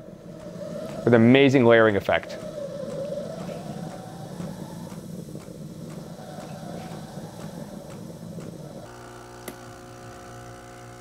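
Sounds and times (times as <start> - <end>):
machine humming: 0.0 - 11.0
milk frother whirring: 0.0 - 11.0.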